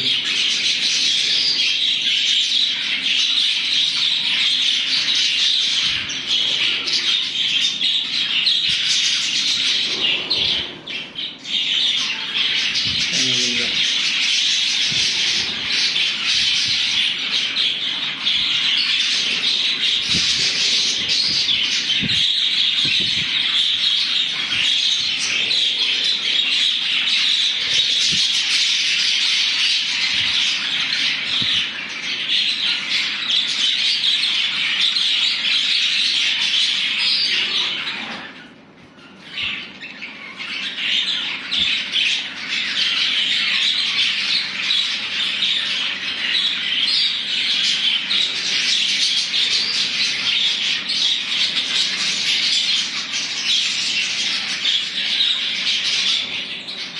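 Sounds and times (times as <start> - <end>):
budgerigars chattering: 0.0 - 56.9.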